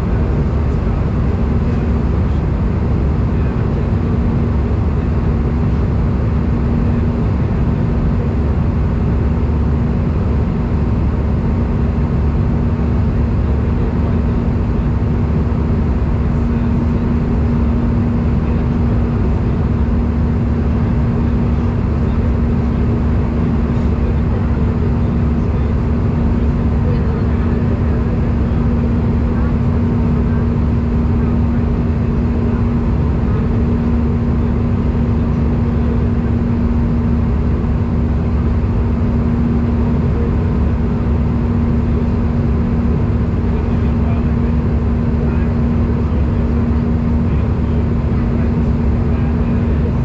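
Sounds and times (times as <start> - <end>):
constant low hum: 0.0 - 50.0
jet engine cabin rumble: 0.0 - 50.0.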